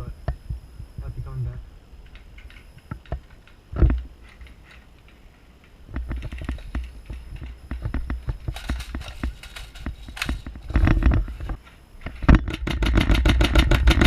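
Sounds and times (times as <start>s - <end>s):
footsteps with gear rattling: 2.2s - 14.0s.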